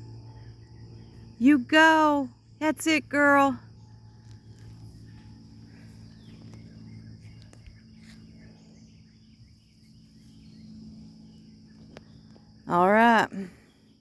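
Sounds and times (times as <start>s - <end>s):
high insect drone: 0.0s - 14.0s
low steady hum: 0.0s - 14.0s.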